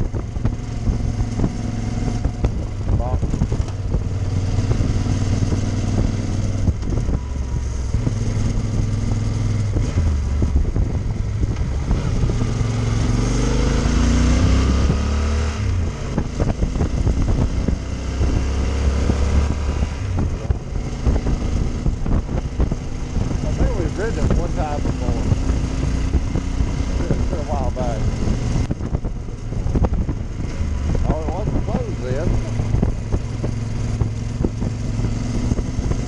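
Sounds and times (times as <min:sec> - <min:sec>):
motorcycle engine running: 0:00.0 - 0:36.0
wind buffeting microphone: 0:00.0 - 0:36.0.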